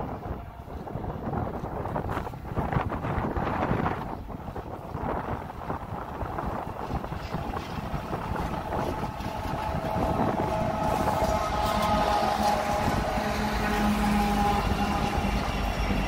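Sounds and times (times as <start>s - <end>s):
train rumble: 0.0s - 16.0s
wind buffeting microphone: 0.0s - 16.0s.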